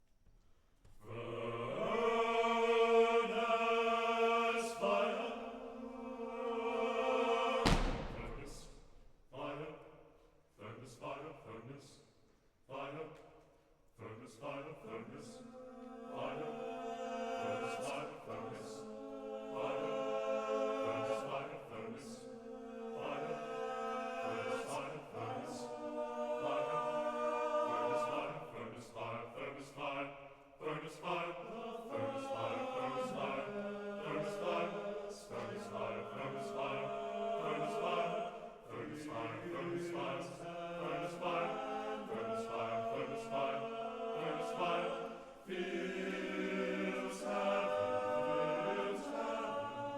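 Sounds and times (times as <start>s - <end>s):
men's choir singing chant: 1.0s - 10.0s, 10.6s - 12.1s, 12.7s - 13.4s, 14.0s - 49.9s.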